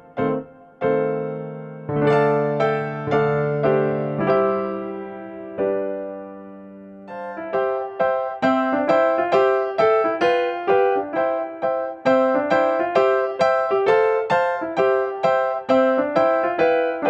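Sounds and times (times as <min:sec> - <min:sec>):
piano-like keyboard chords: 0:00.0 - 0:17.0.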